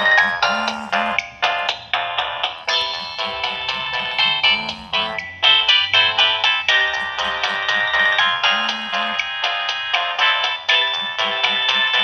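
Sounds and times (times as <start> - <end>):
mobile phone polyphonic ringtone: 0.0 - 1.7, 2.6 - 9.5, 11.0 - 12.0.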